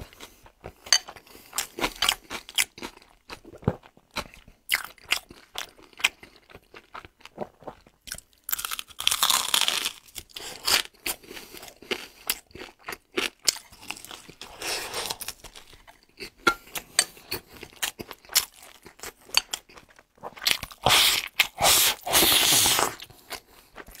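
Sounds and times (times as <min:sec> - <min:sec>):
crunching and chewing fried chicken: 0:00.0 - 0:24.0.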